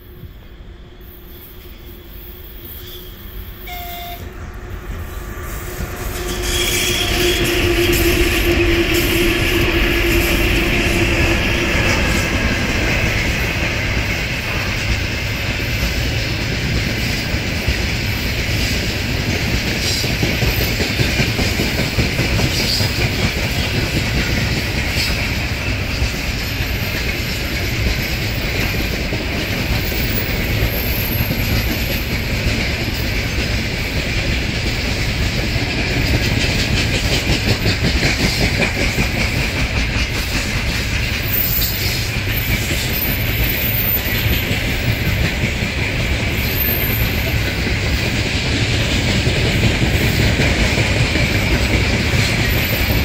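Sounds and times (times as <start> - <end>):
freight wagons rolling on rails: 5.6 - 53.0.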